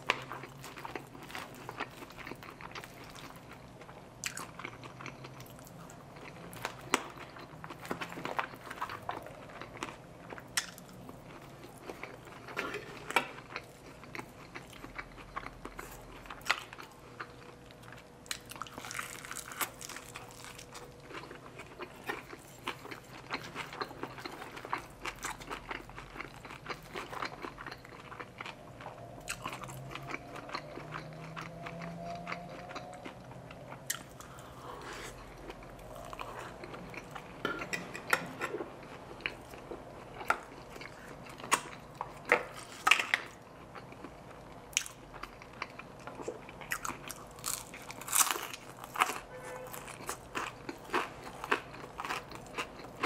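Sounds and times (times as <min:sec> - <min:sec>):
man chewing and crunching food: 0:00.0 - 0:53.0.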